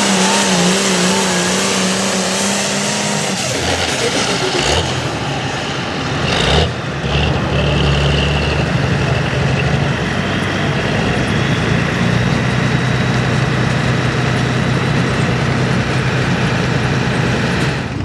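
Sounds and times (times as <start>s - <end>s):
diesel tractor engine idling: 1.6s - 18.0s.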